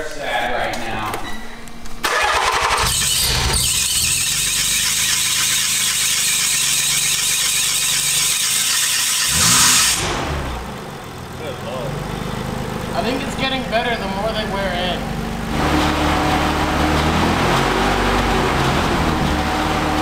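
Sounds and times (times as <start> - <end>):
engine belts squealing: 1.2 - 20.0
car engine cranking and running: 2.0 - 20.0
engine revving: 2.0 - 20.0.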